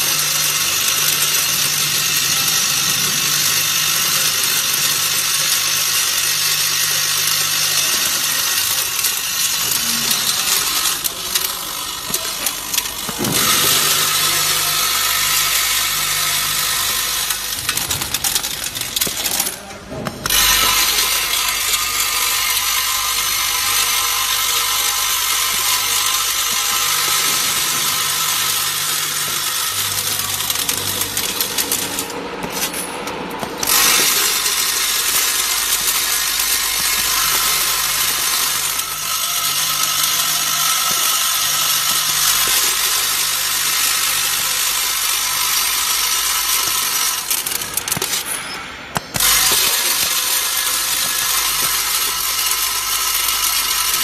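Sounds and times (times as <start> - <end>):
screws rattling on vibrating trays: 0.0 - 54.0.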